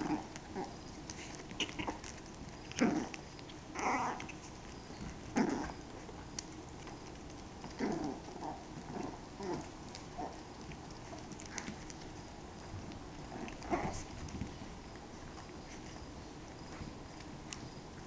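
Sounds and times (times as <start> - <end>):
puppies yipping and growling: 0.0 - 17.1.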